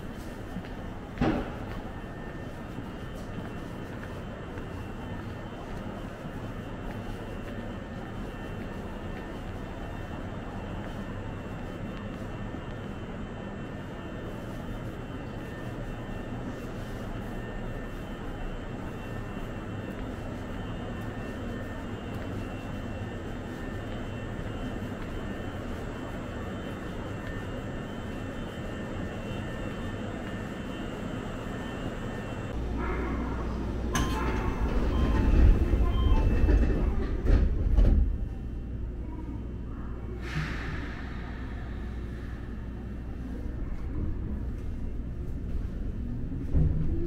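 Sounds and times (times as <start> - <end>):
electric train hum and hiss: 0.0 - 47.0.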